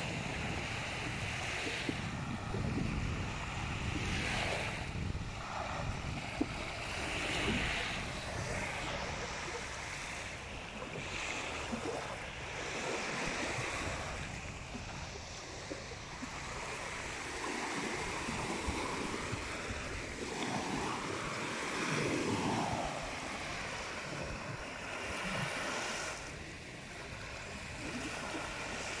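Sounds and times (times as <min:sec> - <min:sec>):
small waves breaking on beach: 0:00.0 - 0:29.0
wind on microphone: 0:00.0 - 0:29.0.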